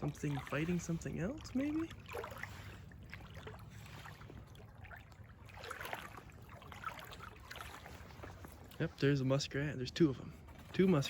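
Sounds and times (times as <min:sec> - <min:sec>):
faint river water flowing: 0:00.0 - 0:11.0
small water splashes: 0:00.0 - 0:11.0.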